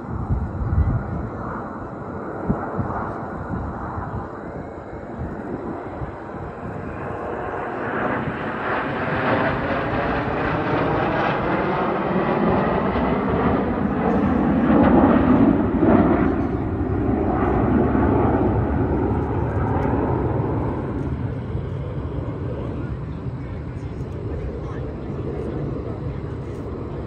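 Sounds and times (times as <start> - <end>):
jet aircraft flying past: 0.0 - 27.0.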